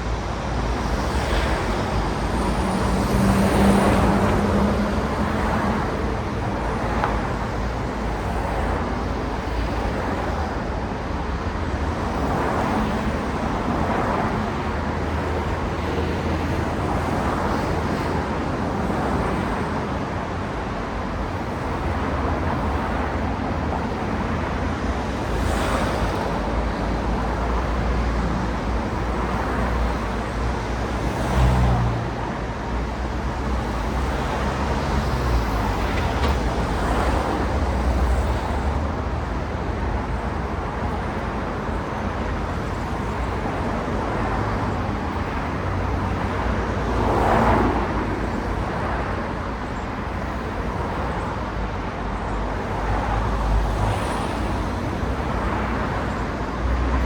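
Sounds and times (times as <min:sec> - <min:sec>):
cars passing close: 0:00.0 - 0:57.0
traffic rumble with tyre noise: 0:00.0 - 0:57.0.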